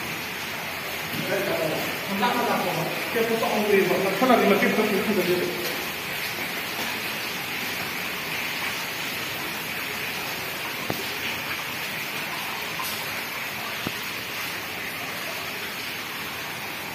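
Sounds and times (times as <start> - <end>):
running water: 0.0 - 16.9.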